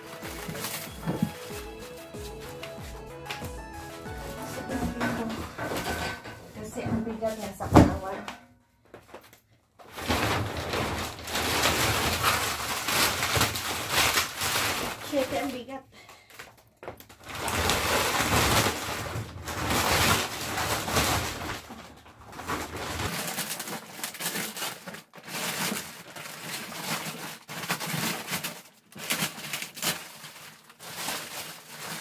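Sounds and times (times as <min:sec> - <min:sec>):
thick plastic wrapping crinkling: 0:00.0 - 0:32.0.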